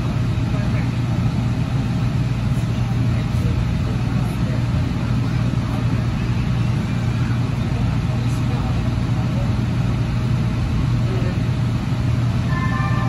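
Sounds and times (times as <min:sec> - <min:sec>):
light rail car hum and rumble: 0:00.0 - 0:13.0.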